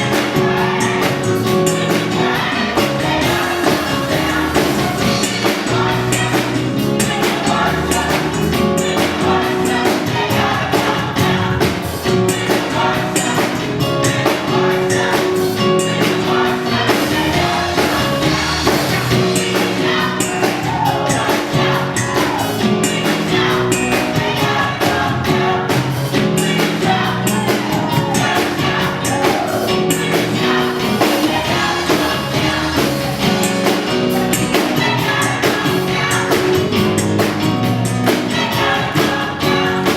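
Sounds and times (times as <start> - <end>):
band accompaniment: 0.0 - 39.9
choir singing gospel song: 0.0 - 39.9
steady drum beat: 0.0 - 39.9.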